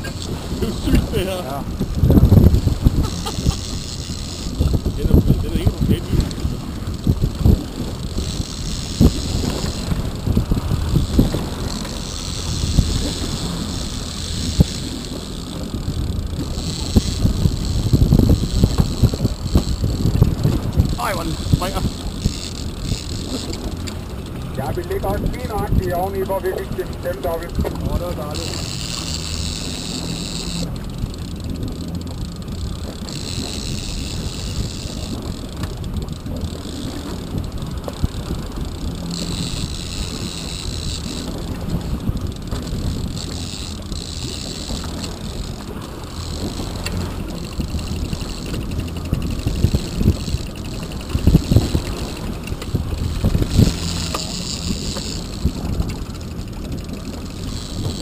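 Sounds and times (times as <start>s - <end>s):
boat engine running: 0.0s - 58.0s
higher whirring: 0.0s - 58.0s
water wash off stern: 0.0s - 58.0s
wind buffeting microphone: 0.0s - 58.0s.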